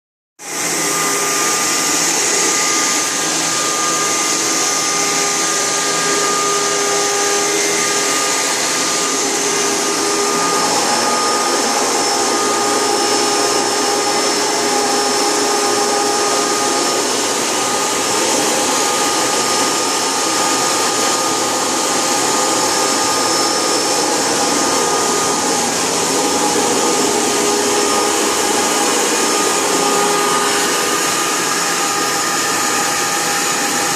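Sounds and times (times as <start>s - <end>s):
vacuum cleaner running: 0.4s - 33.9s.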